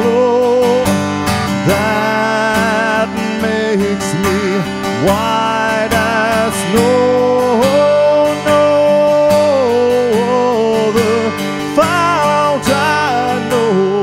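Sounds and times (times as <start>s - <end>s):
man singing a hymn: 0.0s - 14.0s
strummed acoustic guitar: 0.0s - 14.0s.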